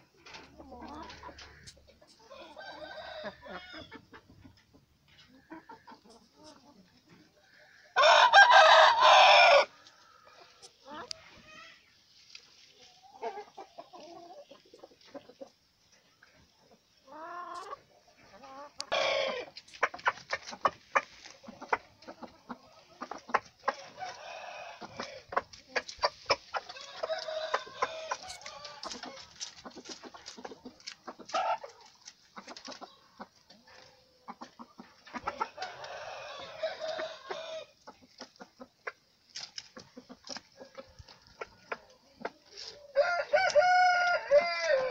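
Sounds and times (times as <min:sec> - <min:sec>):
chickens clucking and calling: 0:00.0 - 0:44.9.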